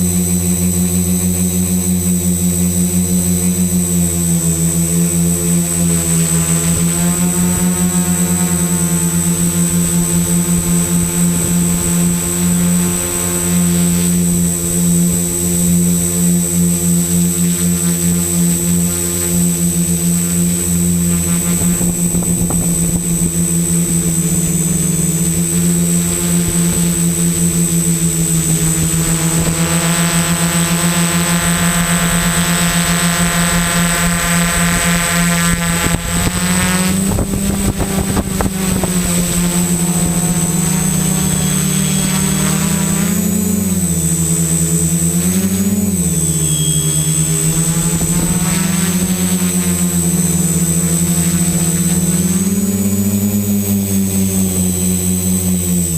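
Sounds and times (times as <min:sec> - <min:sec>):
drone motors droning: 0:00.0 - 0:55.9.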